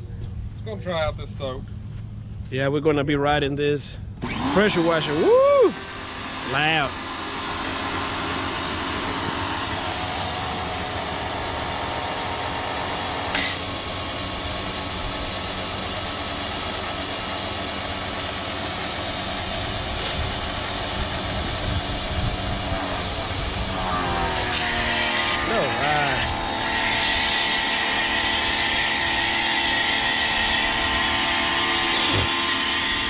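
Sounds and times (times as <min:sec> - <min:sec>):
pressure washer whining: 0:04.2 - 0:33.0.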